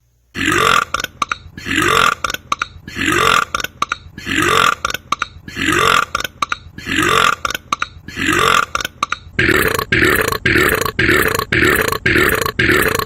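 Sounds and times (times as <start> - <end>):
man burping loudly: 0.4 - 13.0.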